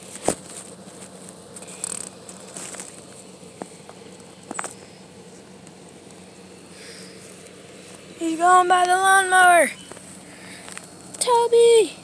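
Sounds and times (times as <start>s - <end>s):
grass and weeds rustling: 0.0s - 11.8s.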